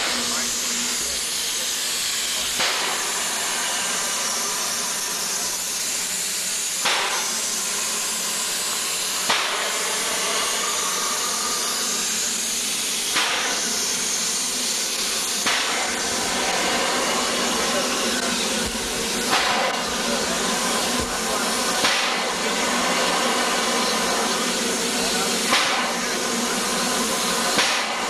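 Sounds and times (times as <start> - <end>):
steam hissing: 0.0 - 28.0.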